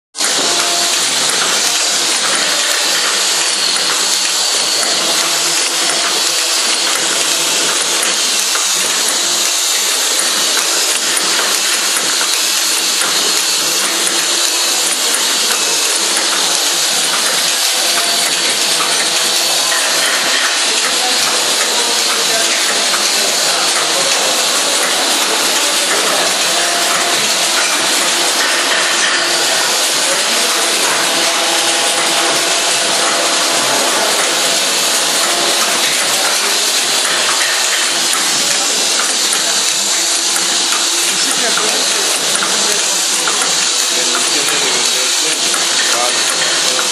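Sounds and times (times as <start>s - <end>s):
cap assembly machine clattering: 0.2s - 46.9s.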